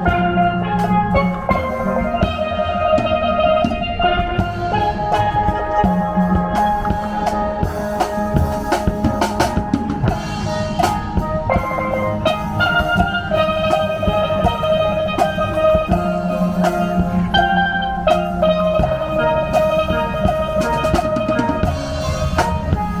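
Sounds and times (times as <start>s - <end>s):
drum kit beat: 0.0s - 23.0s
steel pans playing melody: 0.0s - 23.0s.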